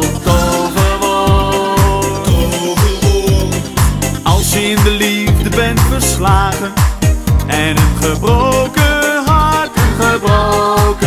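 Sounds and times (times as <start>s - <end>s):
pop song with deep drum beat: 0.0s - 11.0s.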